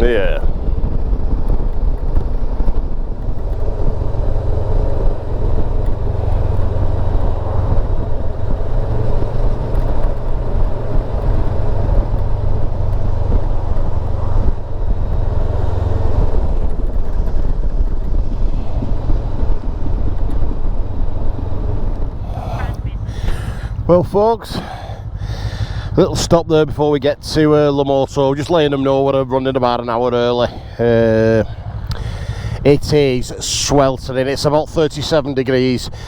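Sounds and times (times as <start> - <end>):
motorcycle engine rumbling: 0.0 - 36.0
road and wind rush: 0.0 - 36.0.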